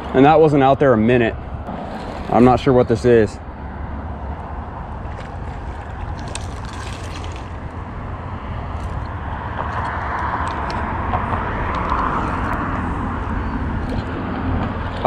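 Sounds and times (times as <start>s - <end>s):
traffic on bridge: 0.0s - 15.0s.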